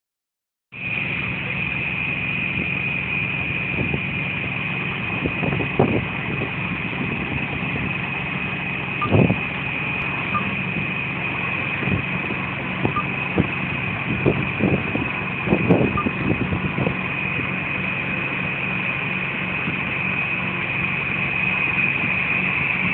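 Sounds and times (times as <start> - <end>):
fire engine motor idling: 0.8 - 22.9.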